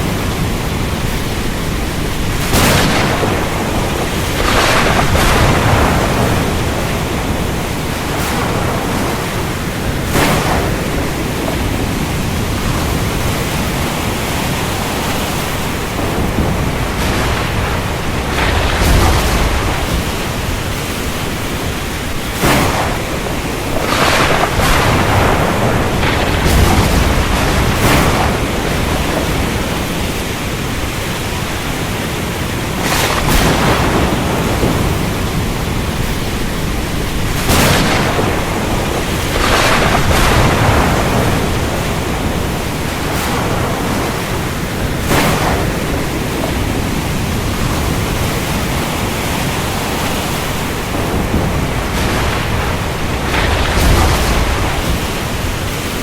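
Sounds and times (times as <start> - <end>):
heavy rain: 0.0 - 56.0
thunder cracks: 0.0 - 56.0.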